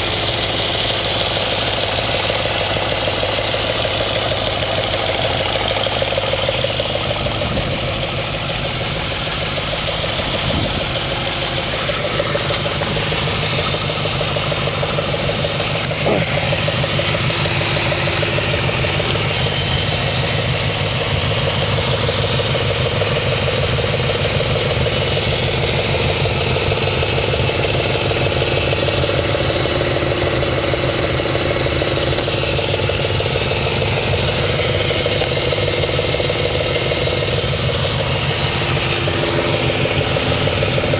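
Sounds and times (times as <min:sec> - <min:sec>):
car engine idling: 0:00.0 - 0:40.9
engine knocking: 0:00.0 - 0:40.9.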